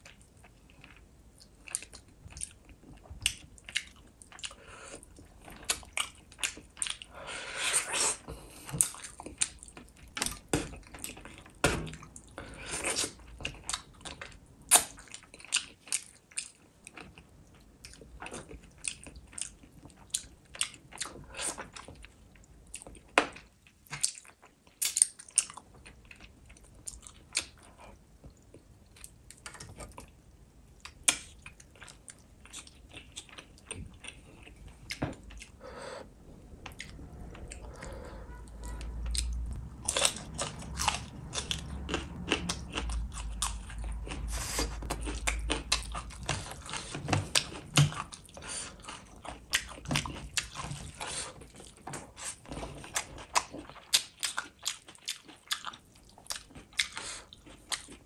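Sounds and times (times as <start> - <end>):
close chewing and crunching: 0.0 - 58.0.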